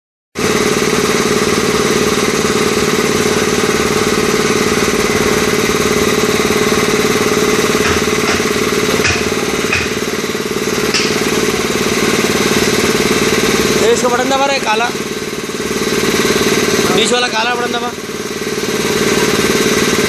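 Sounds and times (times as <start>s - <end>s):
machine motor pulsing: 0.4s - 20.0s.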